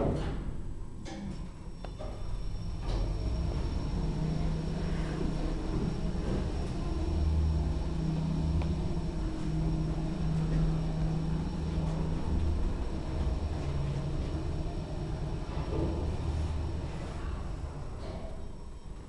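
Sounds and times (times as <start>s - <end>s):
lift rumbling with hum: 0.0s - 19.0s.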